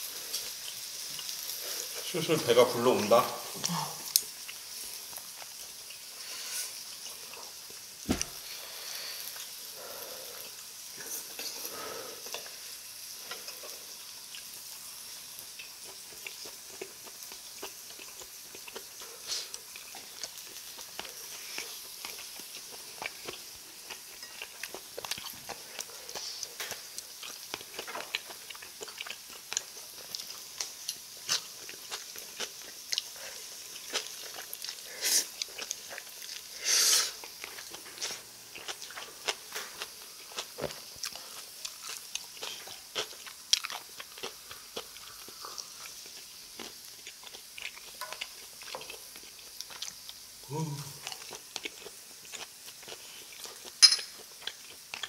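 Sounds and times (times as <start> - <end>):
food sizzling on grill pan: 0.0 - 55.0.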